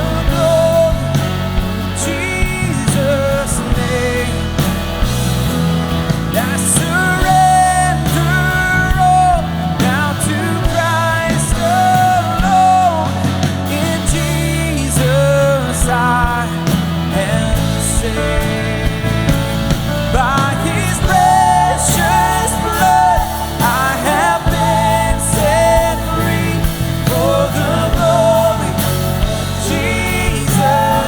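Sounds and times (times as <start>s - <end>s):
person singing: 0.0s - 5.1s, 6.3s - 31.0s
band playing rock song: 0.0s - 31.0s.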